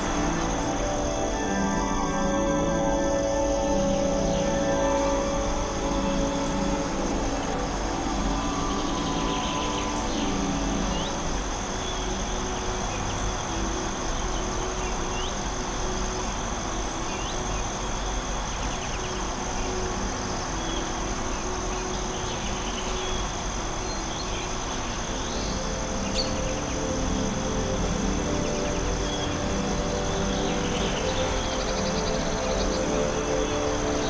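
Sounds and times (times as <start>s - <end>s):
even hiss: 0.0s - 34.0s
high insect trill: 0.0s - 34.0s.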